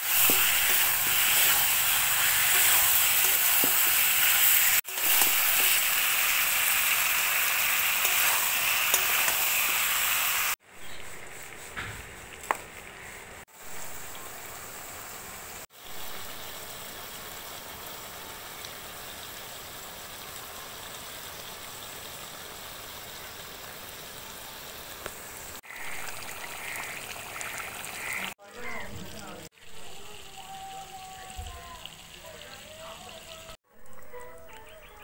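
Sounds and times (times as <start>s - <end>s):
curry sizzling in a wok: 0.0s - 34.0s.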